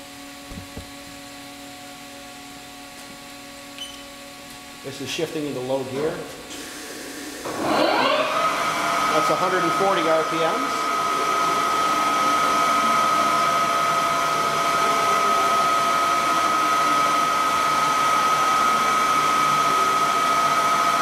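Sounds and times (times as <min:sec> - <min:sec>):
constant machine whine: 0:00.0 - 0:21.0
lathe whirring hum: 0:00.0 - 0:21.0.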